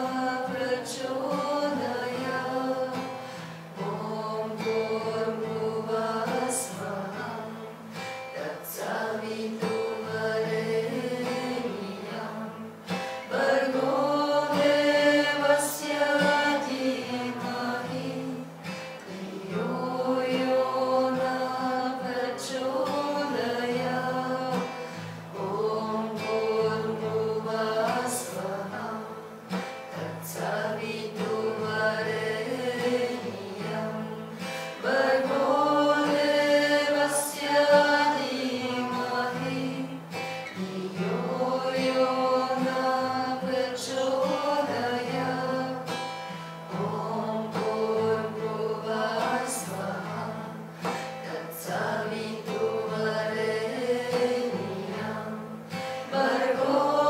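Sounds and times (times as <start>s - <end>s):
acoustic guitar strumming: 0.0s - 57.0s
person singing mantra: 0.0s - 57.0s.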